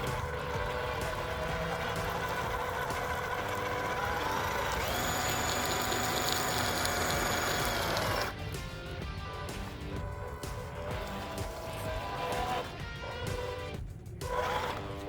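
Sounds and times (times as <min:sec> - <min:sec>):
electric motor whining: 0:00.0 - 0:08.4, 0:09.2 - 0:15.0
background music: 0:00.0 - 0:15.0.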